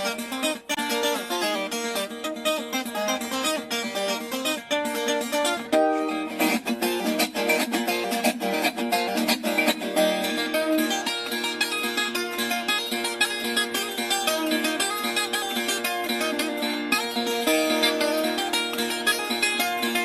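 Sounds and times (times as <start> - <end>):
plucked steel-string guitar: 0.0 - 20.0.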